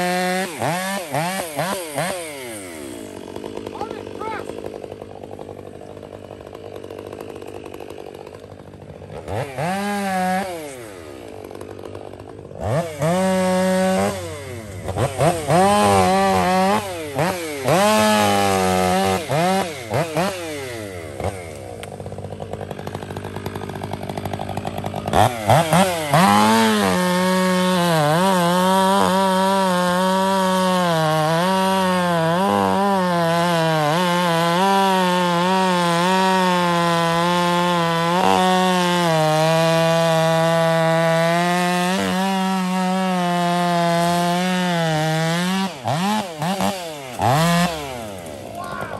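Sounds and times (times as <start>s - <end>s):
chainsaw cutting log: 0.0s - 48.9s
chainsaw revving: 0.0s - 48.9s.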